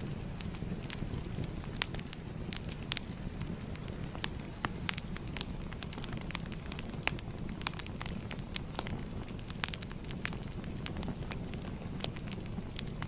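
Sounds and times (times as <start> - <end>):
fire crackling and popping: 0.0 - 13.0
low rumble of burning: 0.0 - 13.0.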